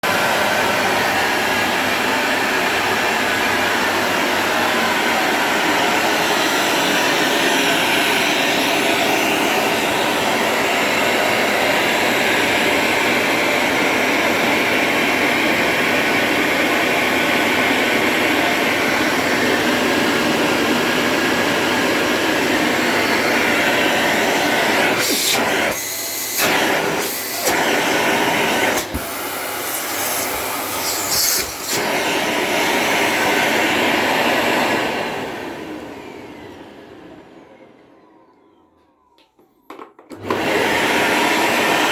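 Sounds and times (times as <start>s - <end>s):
vacuum cleaner running: 0.0s - 39.1s, 40.0s - 41.9s.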